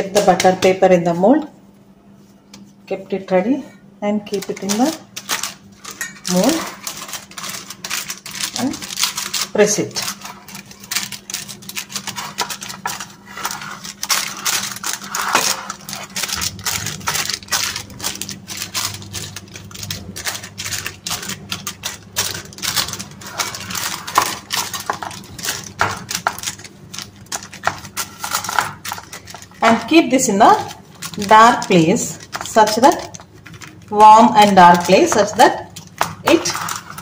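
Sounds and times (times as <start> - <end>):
steady low hum: 0.0 - 37.0
butter paper crinkling: 4.3 - 37.0.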